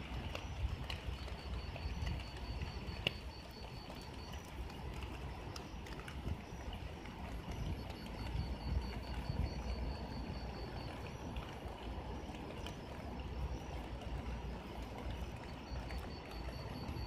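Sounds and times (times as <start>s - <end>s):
drizzling rain: 0.0s - 17.0s
faint high pulsing tone: 0.3s - 17.0s.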